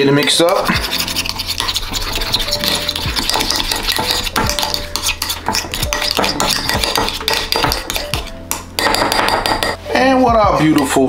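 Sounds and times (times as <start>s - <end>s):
metal spoon scraping ceramic bowl: 0.0s - 9.9s.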